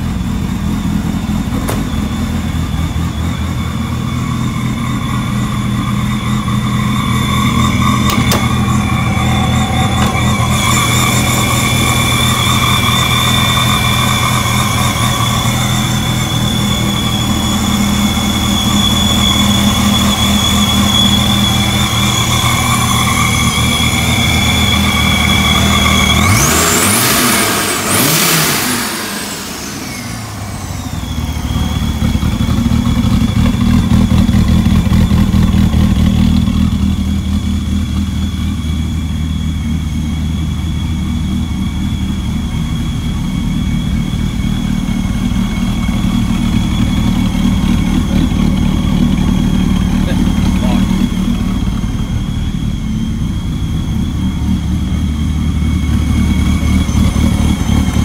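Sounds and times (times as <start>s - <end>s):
car engine idling and revving: 0.0s - 58.0s
steady high whine: 0.0s - 58.0s.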